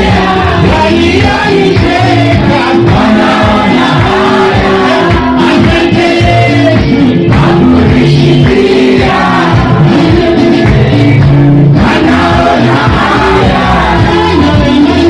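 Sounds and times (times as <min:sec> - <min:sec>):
bass and drums beat: 0:00.0 - 0:15.0
fast guitar-led dance music: 0:00.0 - 0:15.0
voices singing: 0:00.0 - 0:15.0.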